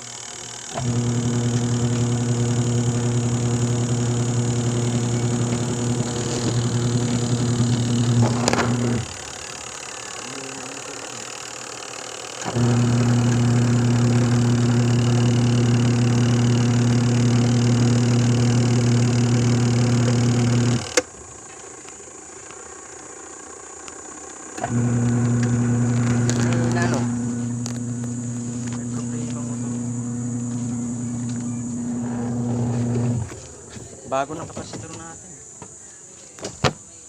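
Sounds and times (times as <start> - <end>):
washing machine motor humming: 0.0 - 35.1.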